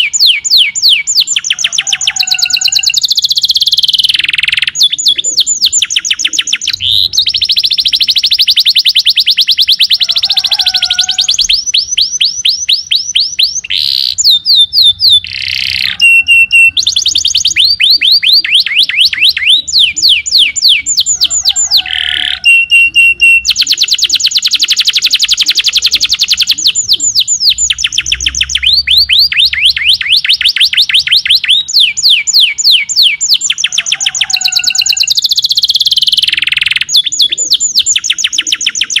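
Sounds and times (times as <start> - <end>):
canary singing trills: 0.0 - 39.0.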